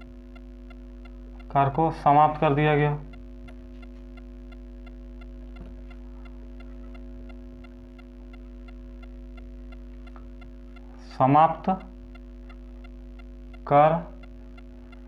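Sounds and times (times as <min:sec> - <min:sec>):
electrical hum: 0:00.0 - 0:15.0
faint regular ticking: 0:00.0 - 0:15.0.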